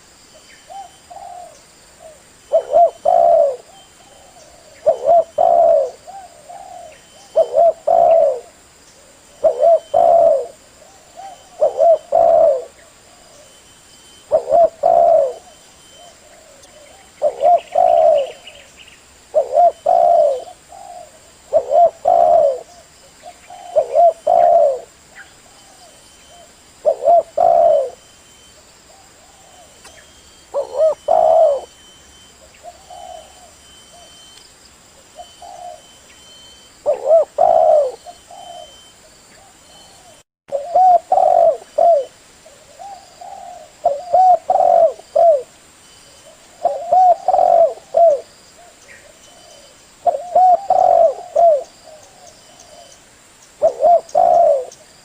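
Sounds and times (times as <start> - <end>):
dove cooing: 0.7 - 13.6, 14.2 - 18.7, 19.3 - 34.3, 35.0 - 45.5, 46.2 - 53.0, 53.6 - 55.0.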